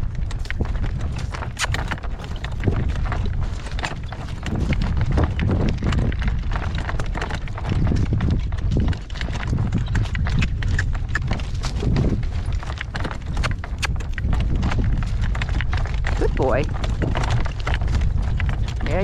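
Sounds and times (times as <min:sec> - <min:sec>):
horse hoofbeats: 0:00.0 - 0:19.0
wind on microphone: 0:00.0 - 0:19.0.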